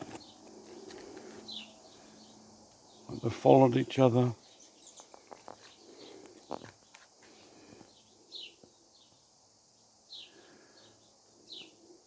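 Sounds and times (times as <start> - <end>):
bird chirping: 0.0 - 9.4, 10.1 - 12.0
faint outdoor background noise: 0.0 - 12.0.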